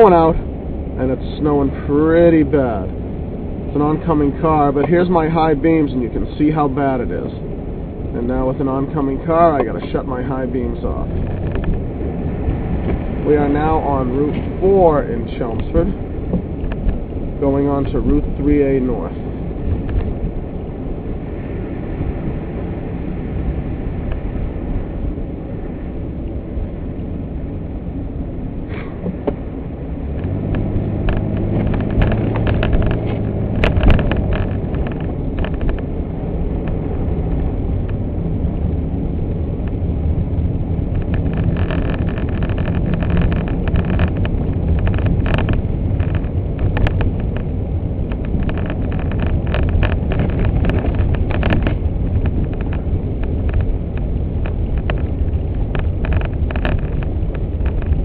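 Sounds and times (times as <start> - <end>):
light ticks and crackles: 0.0 - 7.5, 8.2 - 20.7, 28.7 - 58.0
car engine and road noise: 0.0 - 58.0.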